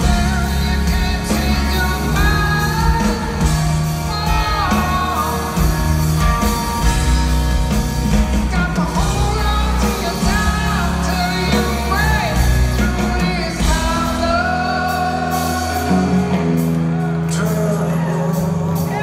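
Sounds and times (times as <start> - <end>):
male lead singer: 0.0 - 19.0
rock band playing live: 0.0 - 19.0.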